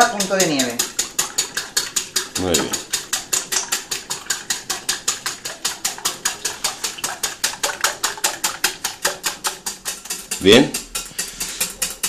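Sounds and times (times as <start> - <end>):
whisk clicking against glass bowl: 0.0 - 12.0.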